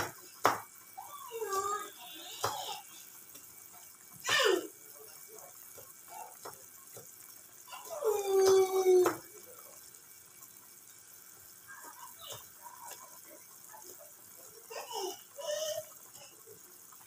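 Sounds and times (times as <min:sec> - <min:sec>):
soup boiling in a pot: 0:00.0 - 0:17.0.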